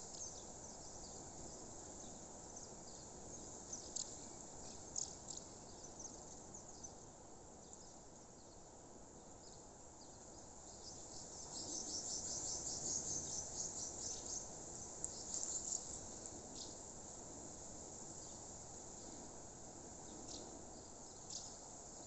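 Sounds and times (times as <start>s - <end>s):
low background hiss: 0.0s - 22.0s.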